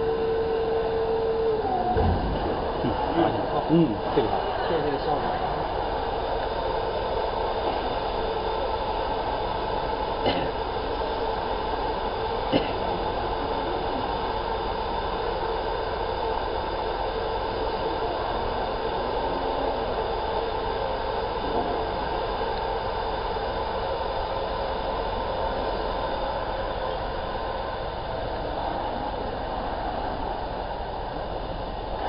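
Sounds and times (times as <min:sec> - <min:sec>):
faint steady tone: 0:00.0 - 0:32.0
machine hum: 0:00.0 - 0:32.0.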